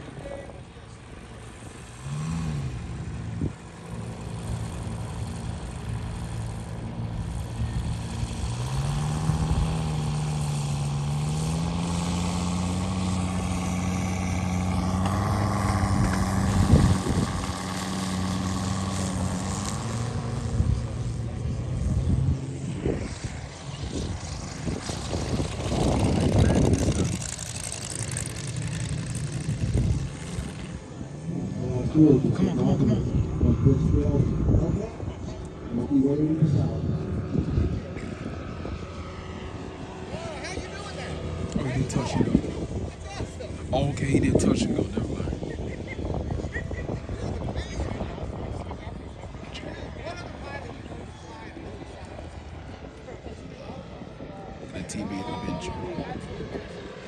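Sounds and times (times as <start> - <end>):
model plane radial engine: 0.0 - 57.0.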